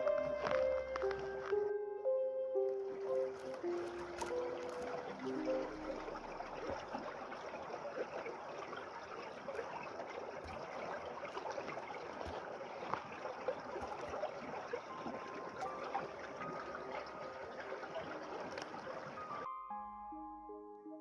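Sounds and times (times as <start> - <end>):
stream trickling over stones: 0.0 - 1.6, 2.7 - 19.5.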